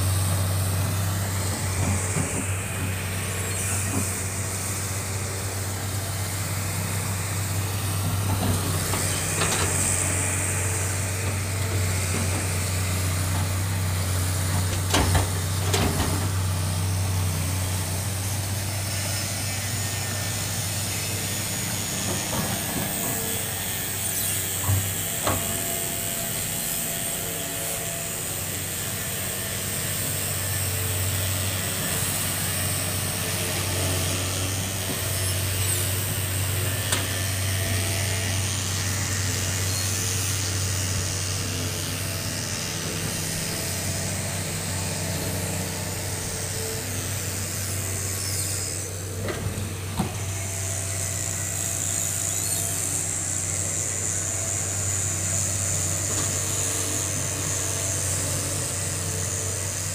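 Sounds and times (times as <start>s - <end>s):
excavator diesel engine humming: 0.0s - 59.9s.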